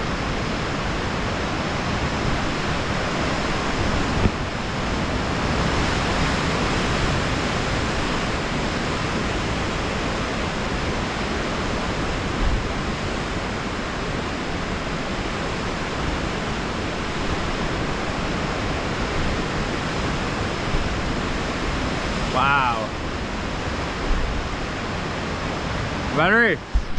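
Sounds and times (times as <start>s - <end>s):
ocean surf breaking on rocks: 0.0s - 26.9s.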